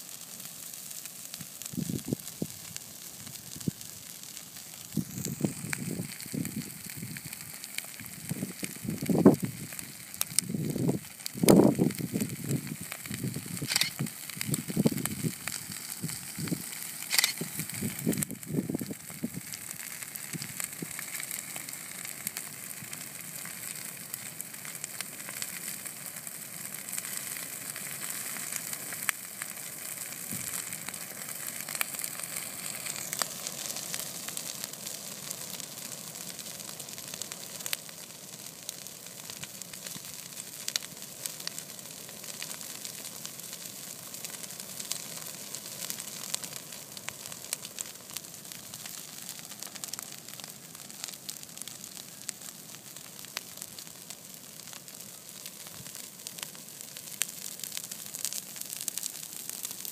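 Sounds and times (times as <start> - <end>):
fire crackling and hissing: 0.0 - 59.9.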